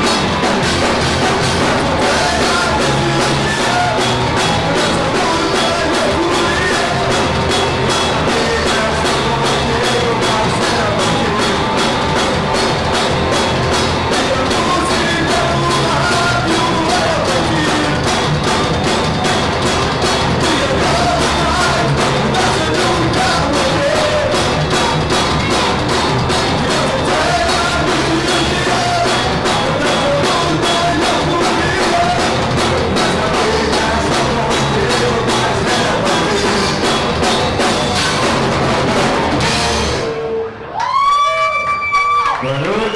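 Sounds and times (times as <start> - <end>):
drum kit beat: 0.0 - 40.3
live rock band playing: 0.0 - 40.8
vocals: 0.0 - 42.9.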